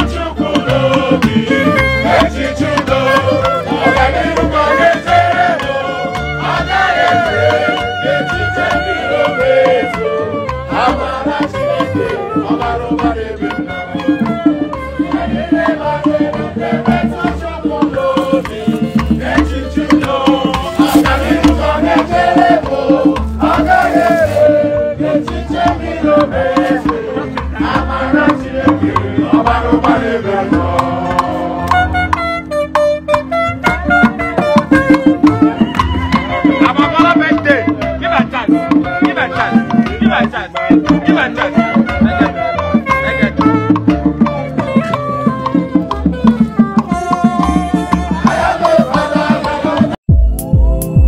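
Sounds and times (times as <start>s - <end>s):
drums and percussion: 0.0s - 51.0s.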